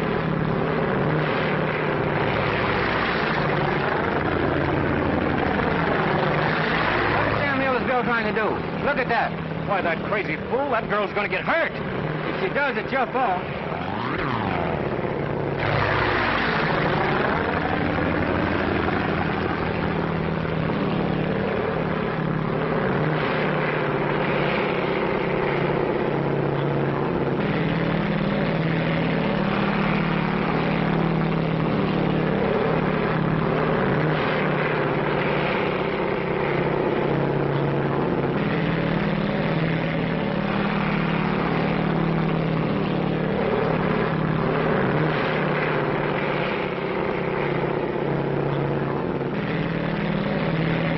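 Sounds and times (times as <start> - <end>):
propeller plane engine drone: 0.0 - 50.9.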